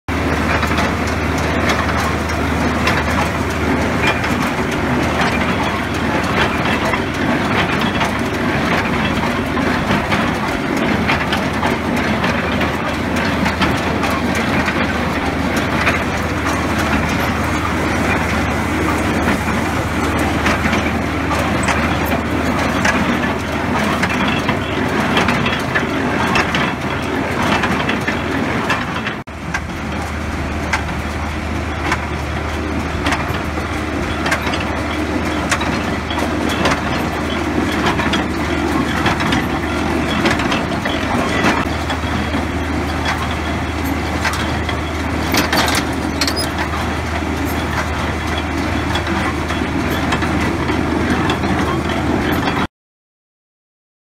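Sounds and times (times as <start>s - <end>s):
baler mechanical clatter: 0.1s - 52.7s
low engine drone: 0.1s - 52.7s.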